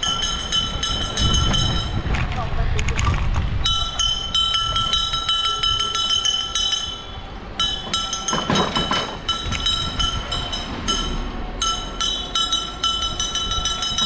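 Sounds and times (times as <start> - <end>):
sustained ringing tone: 0.0 - 2.0, 3.7 - 14.0
rapid metallic clinking: 0.0 - 2.3, 3.6 - 14.0.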